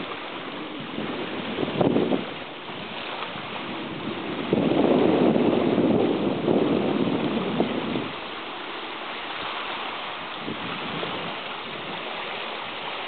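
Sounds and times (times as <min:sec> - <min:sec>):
steady wind hiss: 0:00.0 - 0:13.0
wind buffeting microphone: 0:00.0 - 0:13.0.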